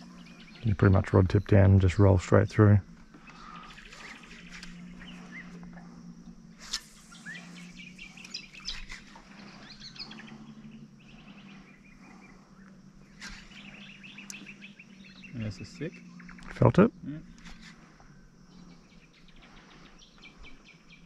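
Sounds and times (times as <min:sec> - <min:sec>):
birds chirping and trilling: 0:00.0 - 0:21.0
electric motor humming: 0:01.4 - 0:19.8.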